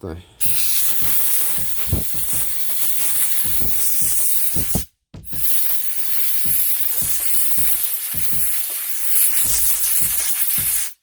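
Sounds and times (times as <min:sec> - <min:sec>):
compressed air blow gun hissing: 0:00.4 - 0:11.0.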